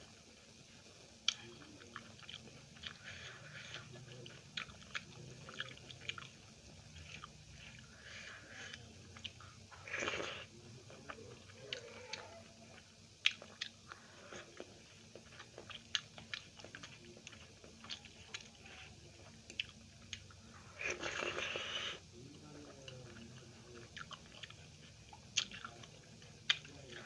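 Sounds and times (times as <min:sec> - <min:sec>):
person chewing food: 0:00.3 - 0:27.0.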